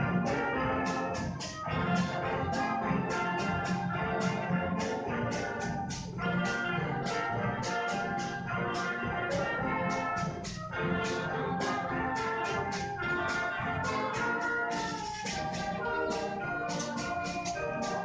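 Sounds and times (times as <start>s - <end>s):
steady percussion beat: 0.0s - 18.0s
wind band playing chords: 0.0s - 18.0s.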